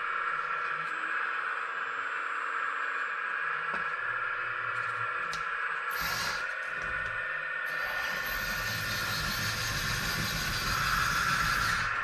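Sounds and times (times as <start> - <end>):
hydraulic pump whine: 0.0 - 12.0.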